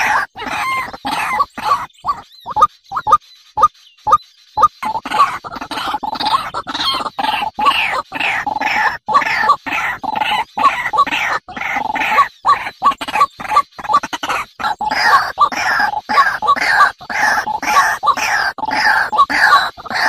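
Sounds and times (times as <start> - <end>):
birds harsh calls: 0.0 - 20.0.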